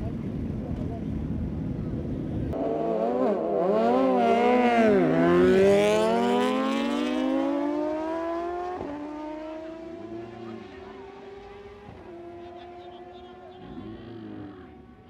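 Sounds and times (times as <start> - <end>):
superbike engine at full throttle: 0.0 - 15.0.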